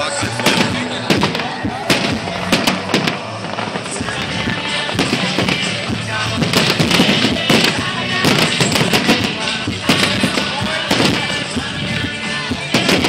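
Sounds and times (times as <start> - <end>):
fireworks bangs: 0.0 - 13.0
fireworks crackling: 0.0 - 13.0
music playing: 0.0 - 13.0.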